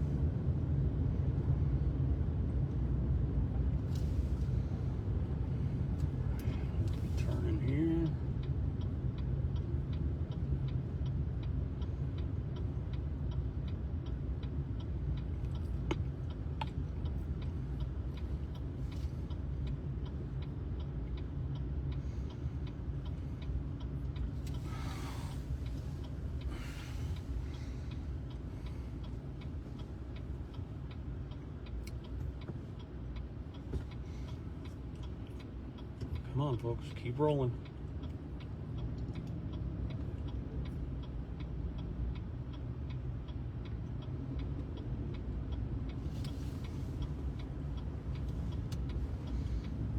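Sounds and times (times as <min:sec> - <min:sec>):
car engine drone and road noise: 0:00.0 - 0:49.9
turn signal relay ticking: 0:04.6 - 0:49.9.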